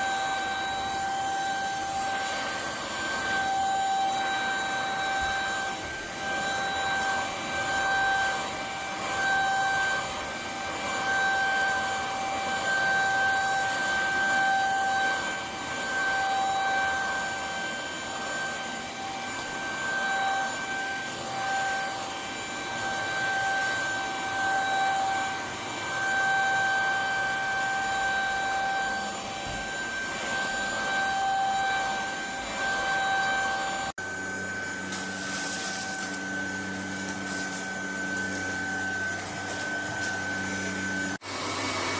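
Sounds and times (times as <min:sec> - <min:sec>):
vacuum cleaner motor whine: 0:00.0 - 0:41.9.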